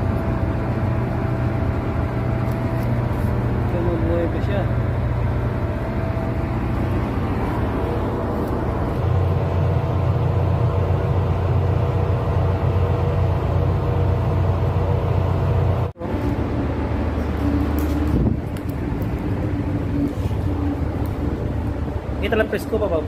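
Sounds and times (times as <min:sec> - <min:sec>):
ship machinery drone: 0:00.0 - 0:23.0.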